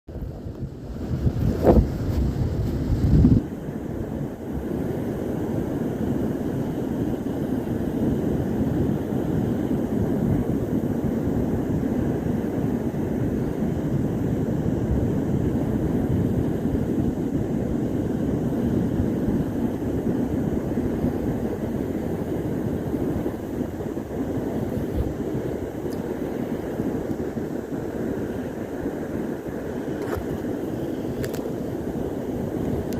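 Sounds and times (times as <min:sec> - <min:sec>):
ocean surf rumble: 0:00.1 - 0:32.9.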